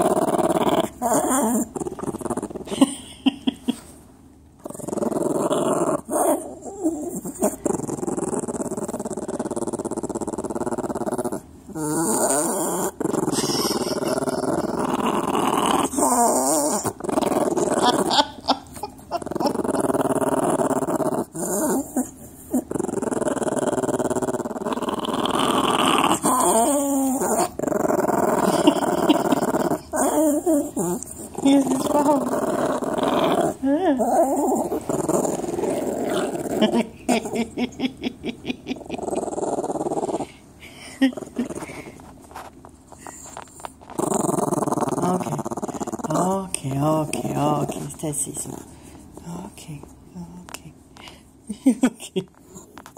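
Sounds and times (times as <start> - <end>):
small dog growling: 0.0 - 3.1, 4.6 - 49.4.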